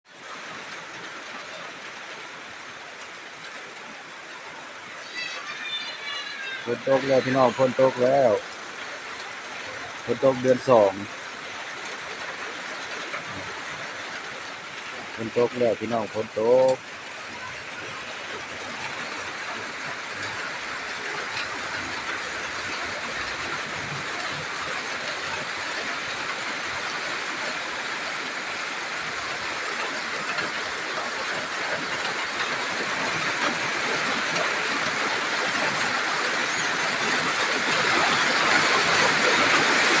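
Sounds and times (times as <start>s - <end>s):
rain falling: 0.1s - 40.0s.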